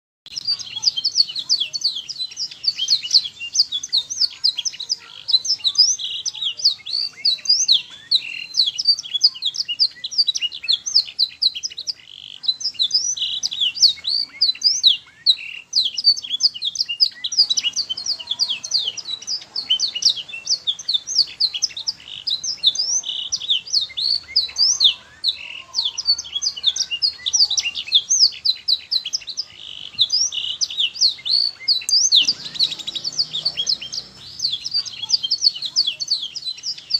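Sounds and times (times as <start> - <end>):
canary singing trills: 0.2 - 36.9.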